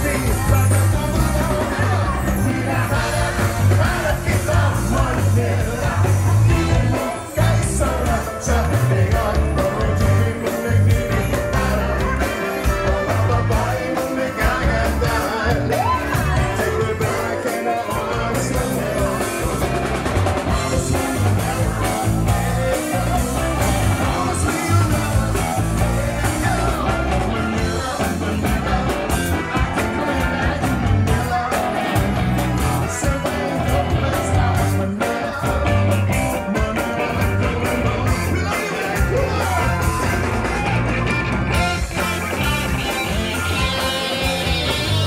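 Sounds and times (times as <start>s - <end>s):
person singing: 0.0s - 40.9s
pop rock band music: 0.0s - 45.0s.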